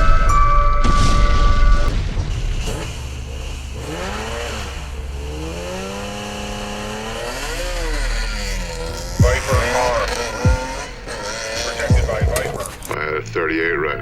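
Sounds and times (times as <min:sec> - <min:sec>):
car engine revving: 0:01.9 - 0:14.0.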